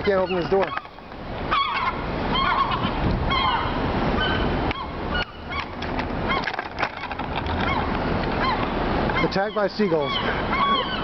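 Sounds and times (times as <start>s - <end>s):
seagulls alarm calls: 0.0s - 11.0s.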